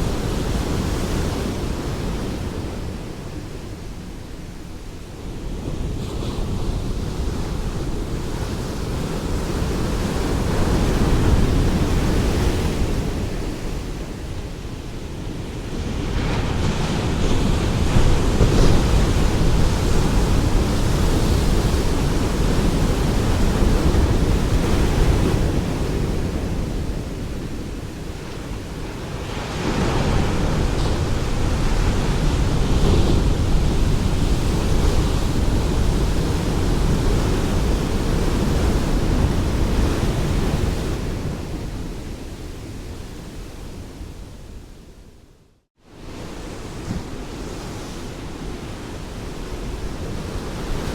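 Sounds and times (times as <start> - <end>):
ocean waves breaking on shore: 0.0 - 45.1, 45.8 - 50.9.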